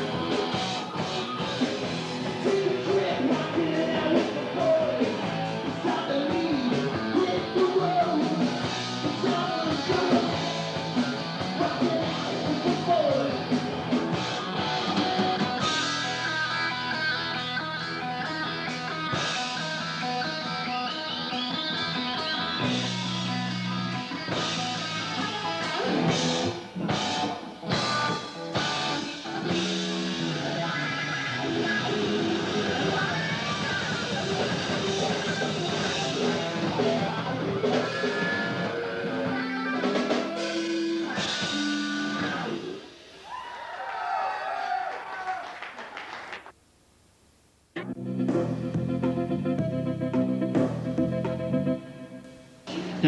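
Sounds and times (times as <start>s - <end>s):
electric guitar: 0.0s - 43.2s, 47.8s - 53.0s
drum kit: 0.0s - 43.5s, 47.8s - 53.0s.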